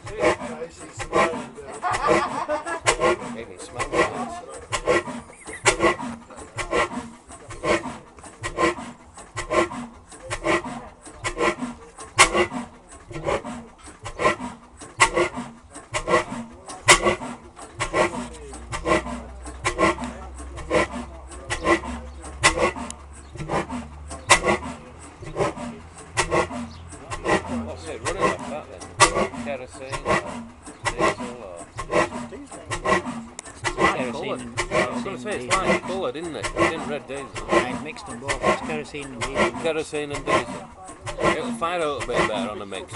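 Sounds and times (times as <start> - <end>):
low hum: 0.0 - 42.9
stationary engine knocking: 0.0 - 42.9.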